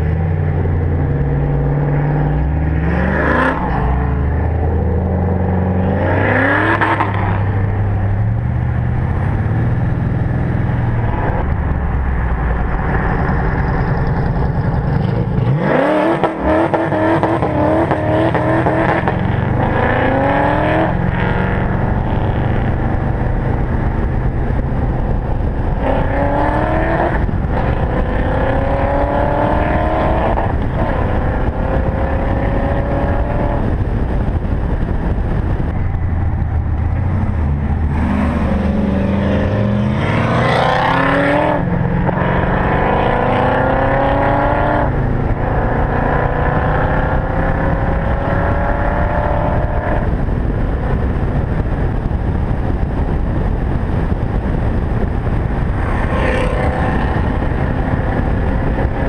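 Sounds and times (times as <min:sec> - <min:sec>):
car engine accelerating through gears: 0:00.0 - 0:34.9, 0:35.6 - 0:51.7, 0:54.1 - 0:59.0.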